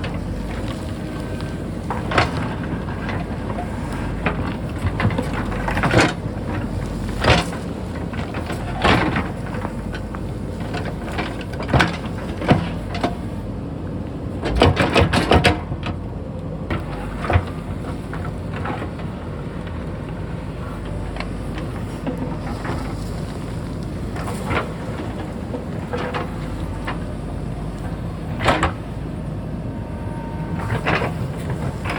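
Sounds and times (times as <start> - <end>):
backhoe engine running: 0.0 - 31.9.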